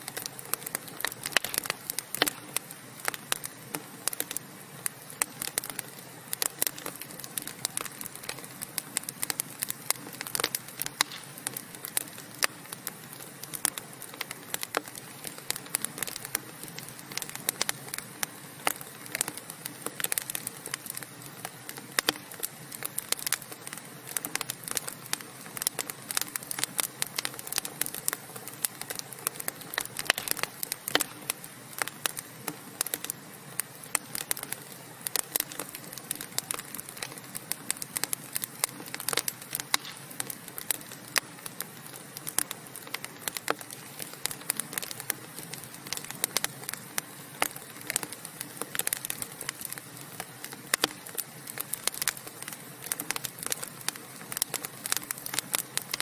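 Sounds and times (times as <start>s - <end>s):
hiss of burning logs: 0.0s - 56.0s
wood fire crackling and popping: 0.0s - 56.0s.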